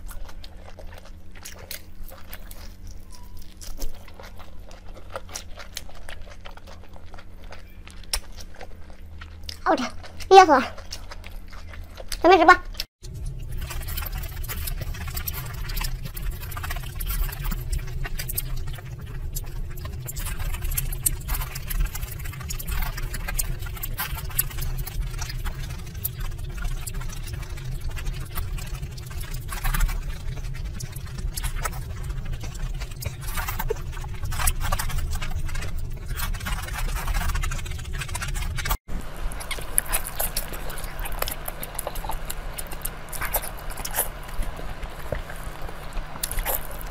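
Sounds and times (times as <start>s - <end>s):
wet chewing: 0.0s - 46.9s.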